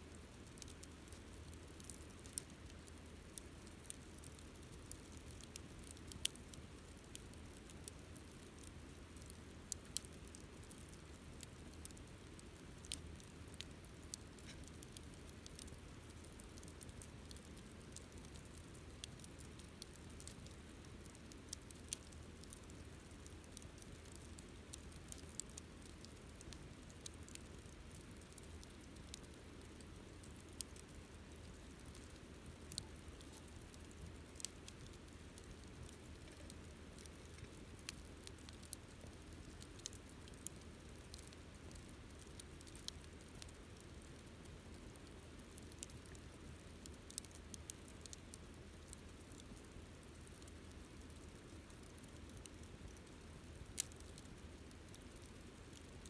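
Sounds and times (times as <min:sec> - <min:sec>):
campfire crackling: 0:00.1 - 0:56.0.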